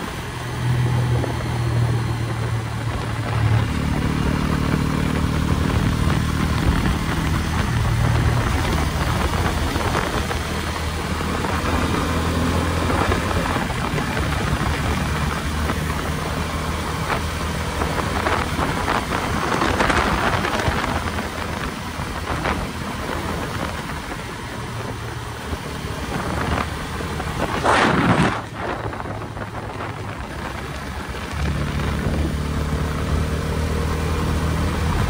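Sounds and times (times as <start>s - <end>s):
motorcycle engine running: 0.0s - 35.0s
wind noise on microphone: 0.0s - 35.0s.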